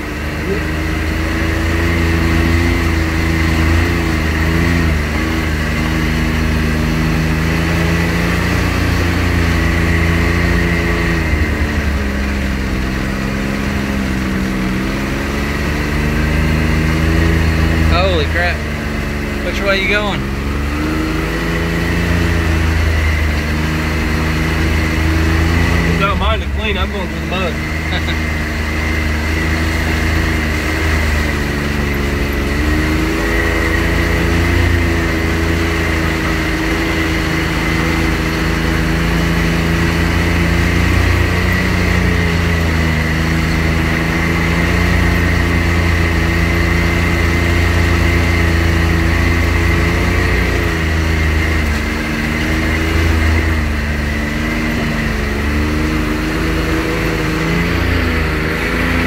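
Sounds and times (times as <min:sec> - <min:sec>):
high whine: 0:00.0 - 0:59.0
vehicle engine revving: 0:00.0 - 0:59.0.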